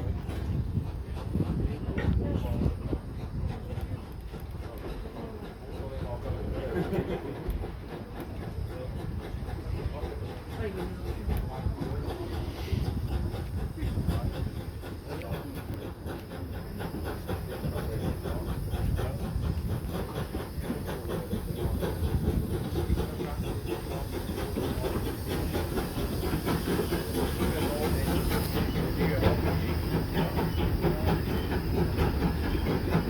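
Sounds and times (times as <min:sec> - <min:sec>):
steam hissing: 0:00.0 - 0:33.0
train wheels rumbling on rail: 0:00.0 - 0:33.0.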